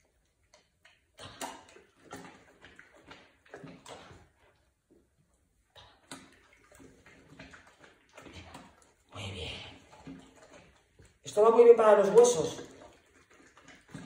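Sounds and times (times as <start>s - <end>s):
dogs crunching vegetables: 0.0s - 14.0s
wet chewing clicks: 0.0s - 14.0s.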